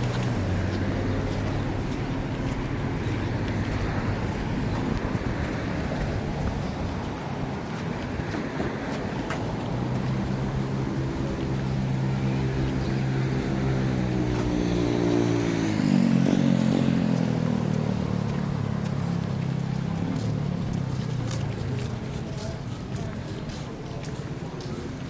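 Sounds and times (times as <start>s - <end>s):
engine passing by: 0.0s - 23.0s.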